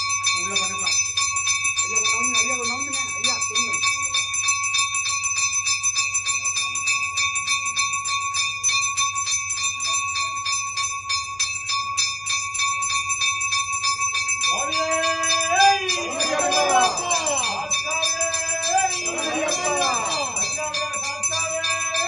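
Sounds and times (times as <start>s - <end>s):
temple bell rung fast: 0.0s - 22.0s.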